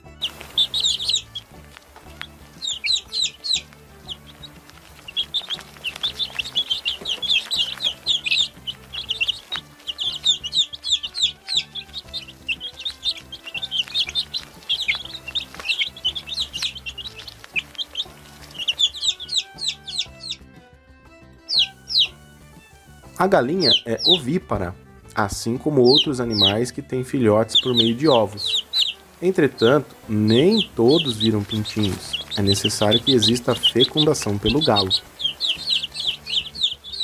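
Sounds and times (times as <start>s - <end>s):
baby chicks peeping: 0.0s - 37.0s
soft background music: 0.0s - 37.0s.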